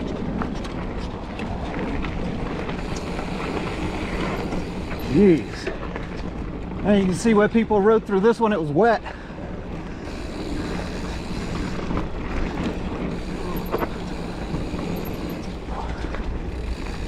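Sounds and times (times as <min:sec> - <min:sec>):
bike tyres rolling on dirt: 0:00.0 - 0:17.0.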